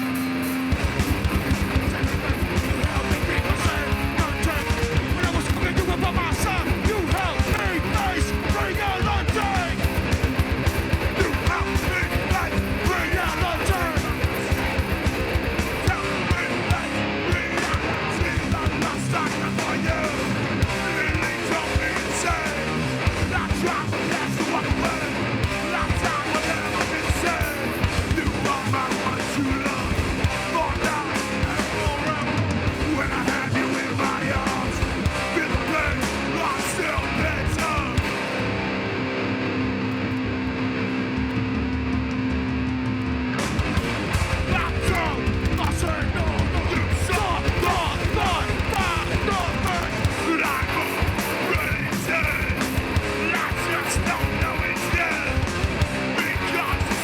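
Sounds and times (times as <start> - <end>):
punk band playing live: 0.0 - 57.0
pounding drums: 0.7 - 38.3, 41.8 - 57.0
shouted vocals: 1.1 - 38.2, 44.3 - 57.0.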